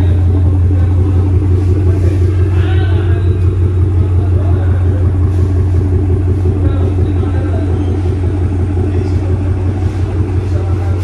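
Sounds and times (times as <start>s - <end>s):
deep exhaust rumble idling: 0.0s - 11.0s.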